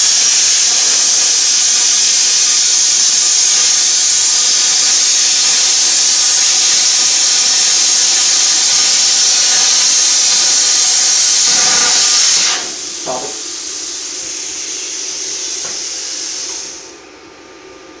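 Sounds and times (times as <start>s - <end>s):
plasma cutter arc hissing: 0.0s - 17.0s
torch cooling air hiss: 0.0s - 17.0s.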